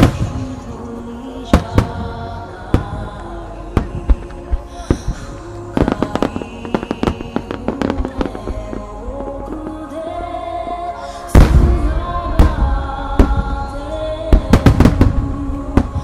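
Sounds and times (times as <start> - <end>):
fireworks bangs: 0.0 - 0.8, 1.5 - 9.8, 11.3 - 16.0
music over loudspeakers: 0.0 - 16.0.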